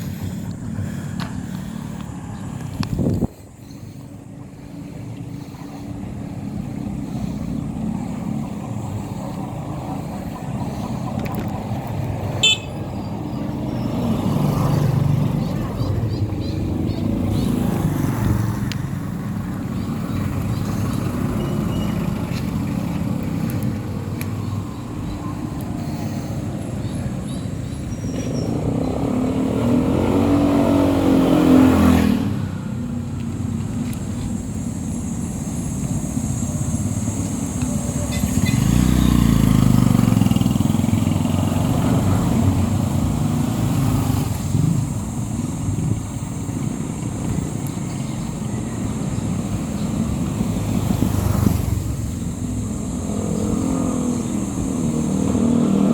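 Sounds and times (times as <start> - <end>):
road traffic rumble: 0.0 - 55.9.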